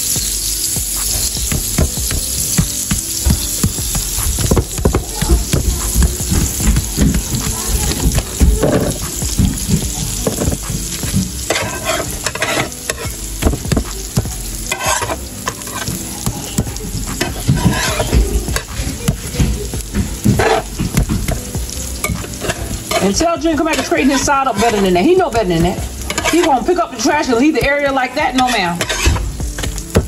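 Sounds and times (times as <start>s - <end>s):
pancakes sizzling in butter: 0.0s - 30.0s.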